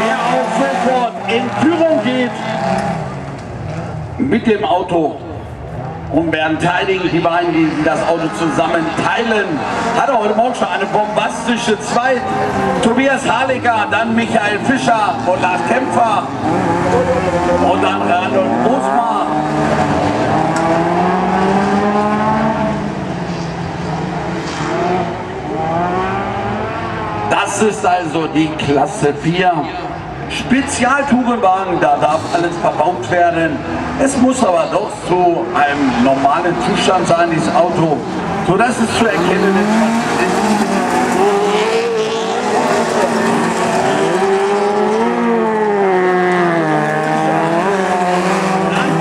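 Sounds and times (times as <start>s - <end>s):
racing car engines: 0.0s - 49.0s.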